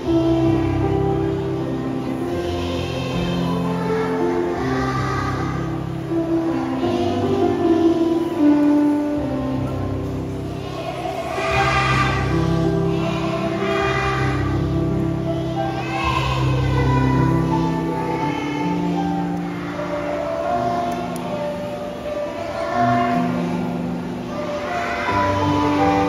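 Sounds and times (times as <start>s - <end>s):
children's choir singing: 0.0s - 26.0s
music accompaniment: 0.0s - 26.0s.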